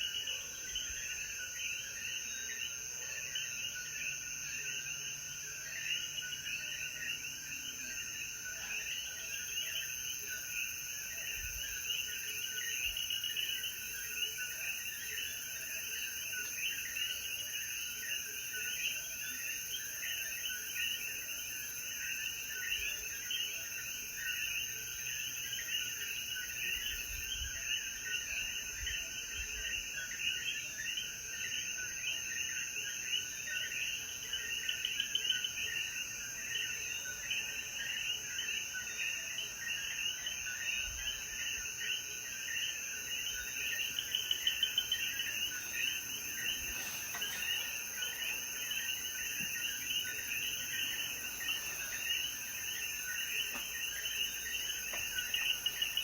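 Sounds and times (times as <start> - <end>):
frogs calling: 8.9 - 56.0.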